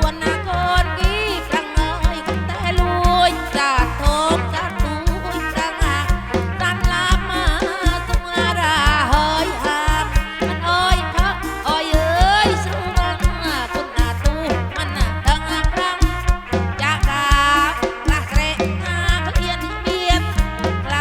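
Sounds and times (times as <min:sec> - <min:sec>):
folk music through pa system: 0:00.0 - 0:21.0
steady drum beat: 0:00.0 - 0:21.0.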